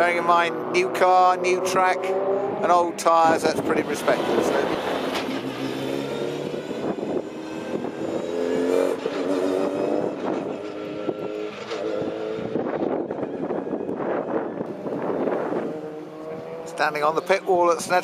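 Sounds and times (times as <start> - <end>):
race car engine at low revs: 0.0 - 18.0.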